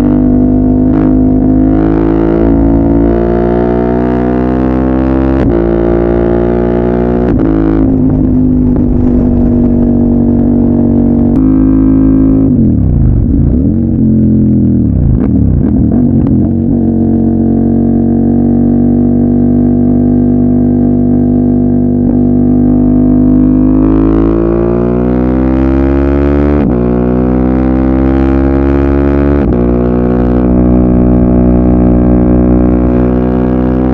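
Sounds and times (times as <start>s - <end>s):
motorcycle engine droning: 0.0s - 33.9s.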